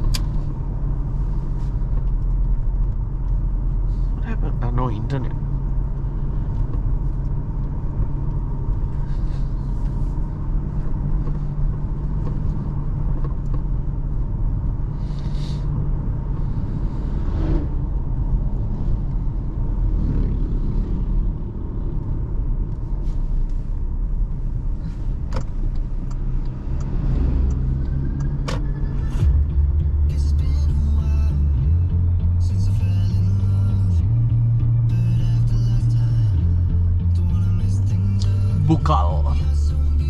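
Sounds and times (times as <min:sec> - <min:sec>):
engine and road rumble: 0:00.0 - 0:40.0.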